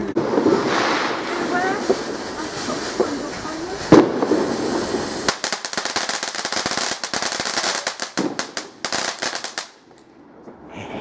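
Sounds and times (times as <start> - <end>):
fireworks cracking and banging: 0.0 - 10.0.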